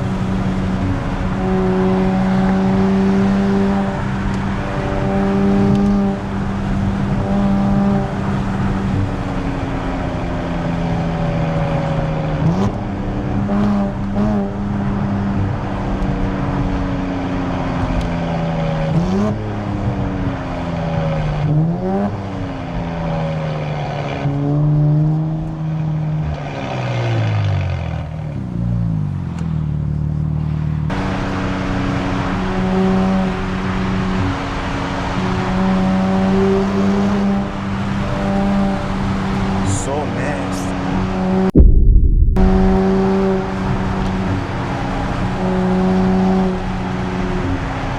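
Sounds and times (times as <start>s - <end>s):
car engine revving through exhaust: 0.0s - 41.6s, 42.4s - 47.9s.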